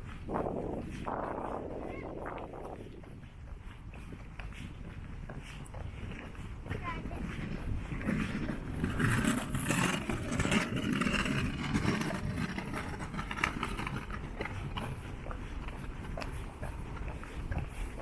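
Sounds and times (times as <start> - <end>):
footsteps on path: 0.0 - 18.0.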